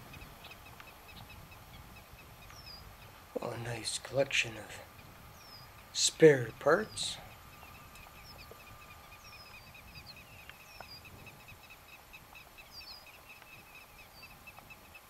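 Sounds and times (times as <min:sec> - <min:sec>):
birds whistling: 0:00.0 - 0:15.0.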